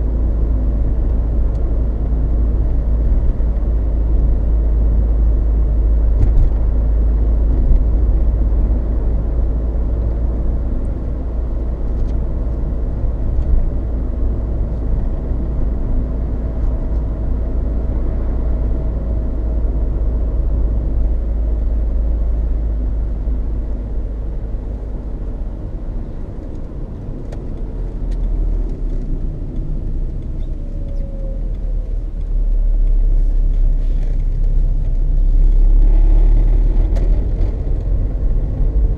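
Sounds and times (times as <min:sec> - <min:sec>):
tyre road noise in car cabin: 0:00.0 - 0:38.9.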